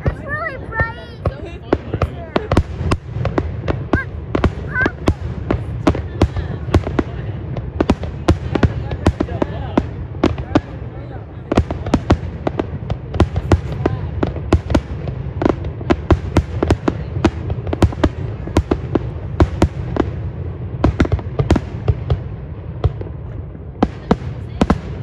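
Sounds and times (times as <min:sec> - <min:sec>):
fireworks bursting with sharp bangs: 0:00.0 - 0:25.0.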